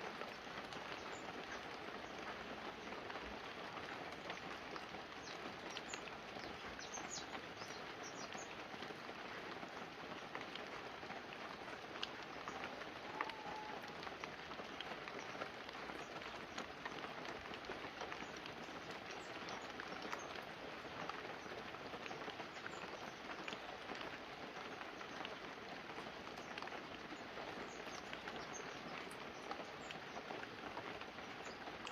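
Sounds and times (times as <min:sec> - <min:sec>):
light rain on leaves and roof: 0:00.0 - 0:31.9
small water drips: 0:00.0 - 0:31.9.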